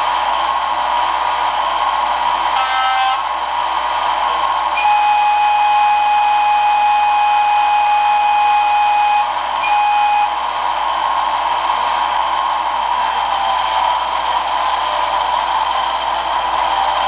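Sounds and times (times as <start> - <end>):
locomotive running sound: 0.0 - 17.0.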